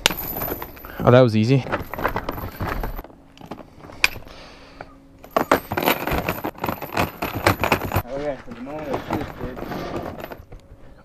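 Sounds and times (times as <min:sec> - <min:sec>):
metal chain rattling: 0:00.0 - 0:04.2, 0:05.2 - 0:10.5.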